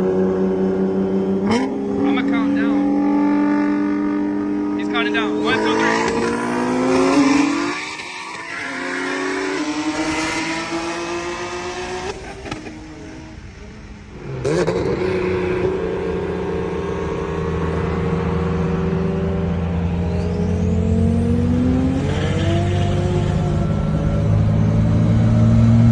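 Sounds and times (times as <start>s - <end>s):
car engine revving under load: 0.0s - 25.9s.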